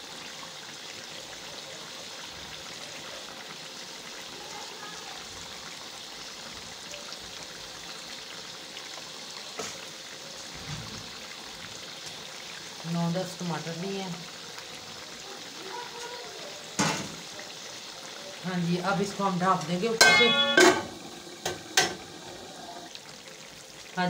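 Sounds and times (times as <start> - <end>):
chicken sizzling and bubbling in oil: 0.0 - 24.0.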